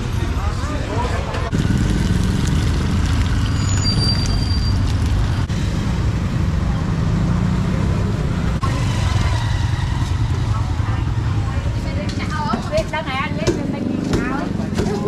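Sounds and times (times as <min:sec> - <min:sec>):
motorbike traffic rumble: 0:00.0 - 0:15.0
street market bustle: 0:00.0 - 0:15.0.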